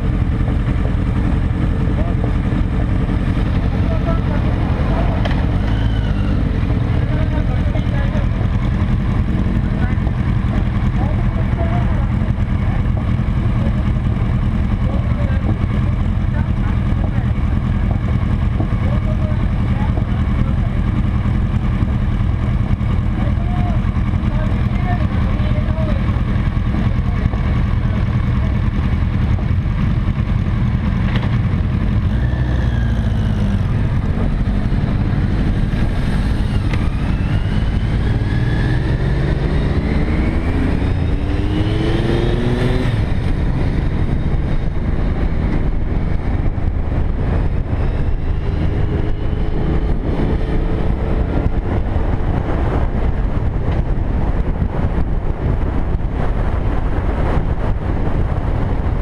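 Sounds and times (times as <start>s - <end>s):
motorcycle engine idling and accelerating: 0.0s - 59.0s.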